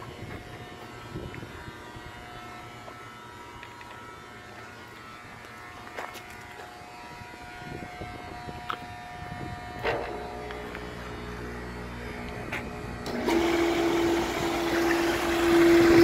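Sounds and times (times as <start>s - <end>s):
machine electric hum and buzz: 0.0s - 16.0s.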